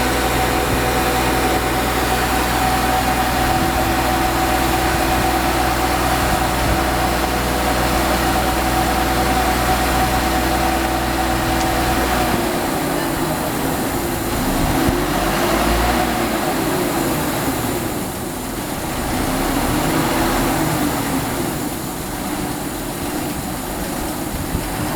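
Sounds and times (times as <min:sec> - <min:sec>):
diesel engine revving: 0:00.0 - 0:23.1.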